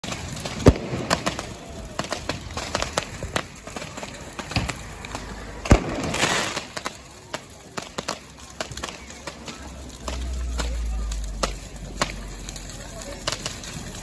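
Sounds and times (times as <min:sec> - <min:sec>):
fireworks bangs and pops: 0:00.0 - 0:14.0
fireworks crackling: 0:00.0 - 0:14.0.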